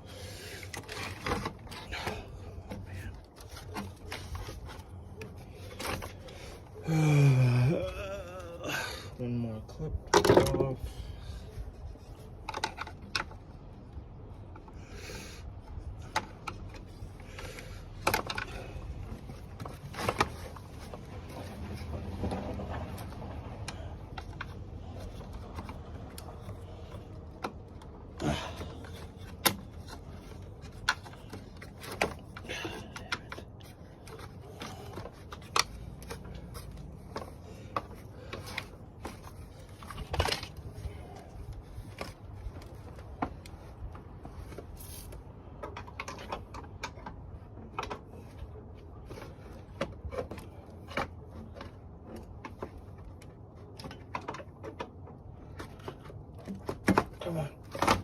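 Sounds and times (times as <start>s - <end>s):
hand tools clicking and scraping: 0.0s - 58.0s.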